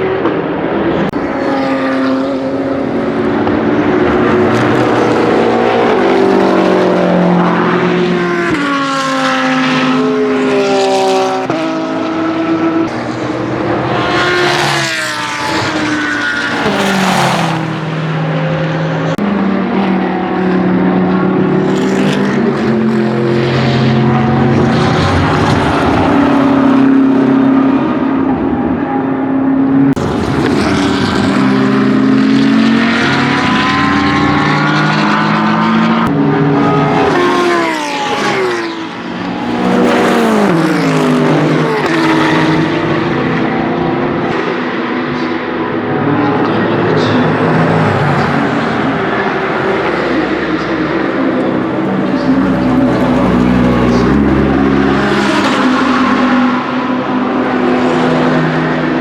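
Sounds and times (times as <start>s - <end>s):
race cars passing by: 0.0s - 59.0s
racing engine accelerating: 0.0s - 59.0s.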